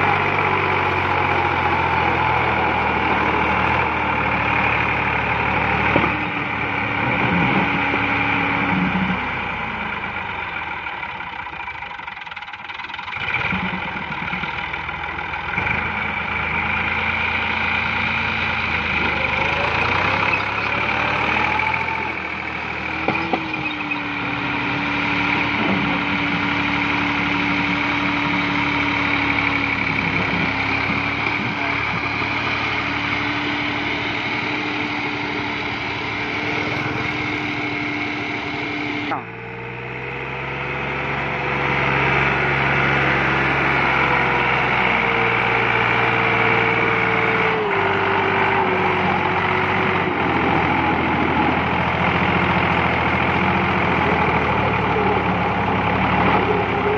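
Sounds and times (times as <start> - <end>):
tractor diesel engine labouring: 0.0 - 56.9.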